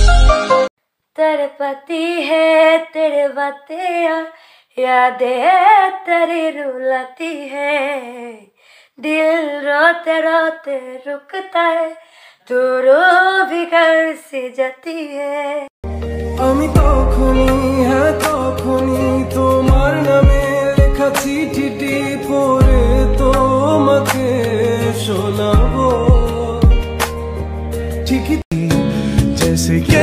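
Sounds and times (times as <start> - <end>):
woman singing unaccompanied: 1.1 - 15.7, 16.4 - 26.9.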